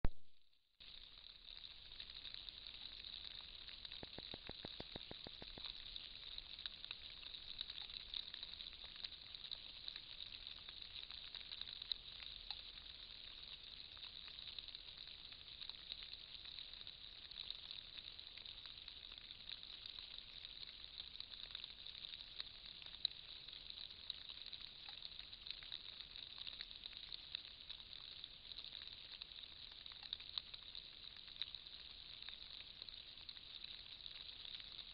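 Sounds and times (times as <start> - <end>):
faint crackles: 0.0 - 34.9
microphone hiss: 0.0 - 34.9.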